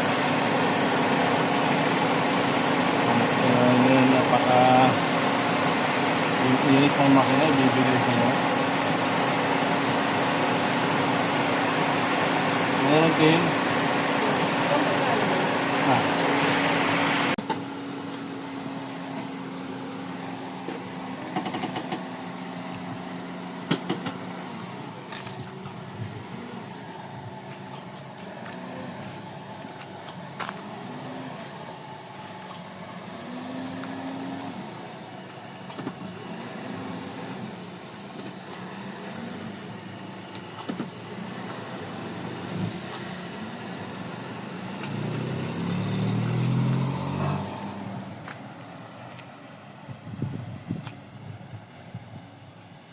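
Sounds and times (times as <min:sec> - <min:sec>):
car engine idling: 0:00.0 - 0:46.8, 0:47.7 - 0:52.9.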